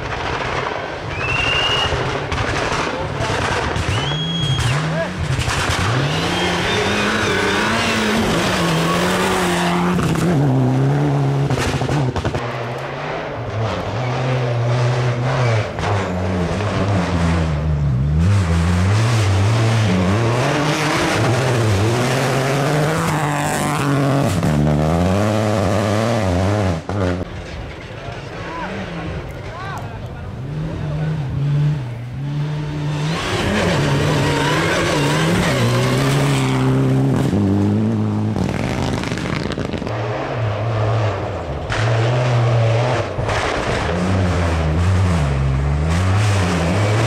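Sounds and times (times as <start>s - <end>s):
rally car engine revving: 0.1s - 47.0s.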